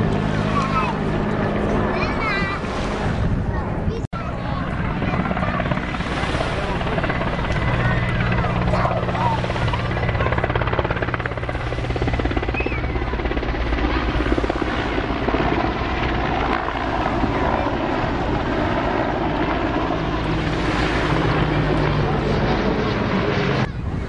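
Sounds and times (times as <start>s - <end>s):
helicopter rotor beating: 0.0s - 24.0s
low turbine drone: 0.0s - 24.0s.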